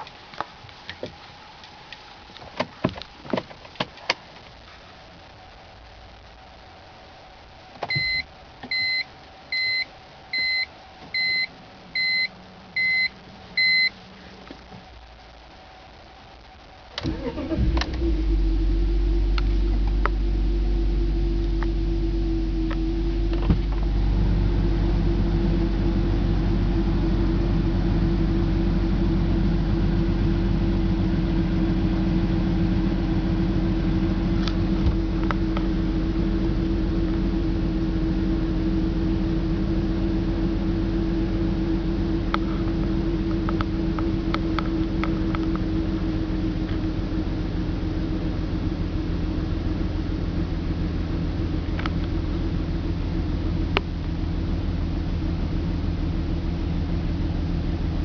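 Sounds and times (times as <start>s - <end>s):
steady hum: 0.0s - 58.0s
car engine idling: 2.3s - 58.0s.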